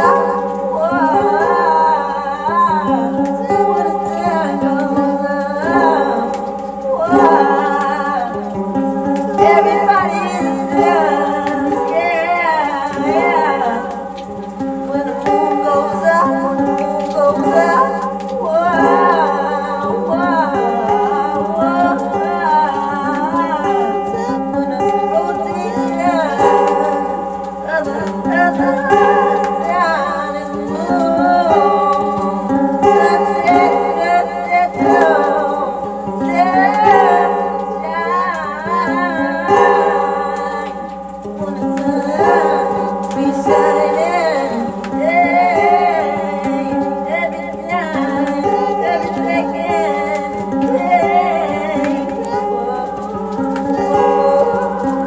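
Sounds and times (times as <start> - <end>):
person singing wordless melody: 0.0 - 55.0.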